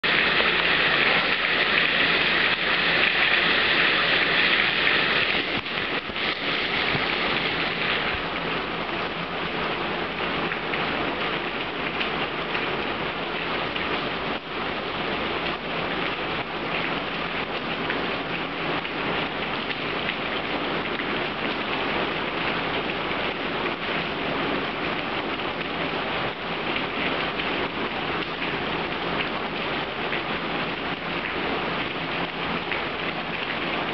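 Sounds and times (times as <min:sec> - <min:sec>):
heavy rain on wet ground: 0:00.0 - 0:33.9.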